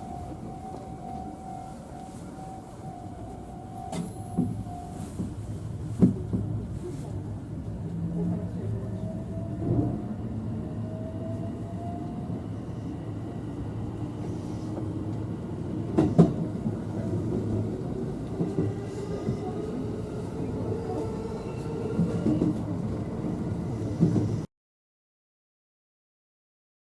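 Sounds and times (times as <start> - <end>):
train rumbling past: 0.0 - 24.5.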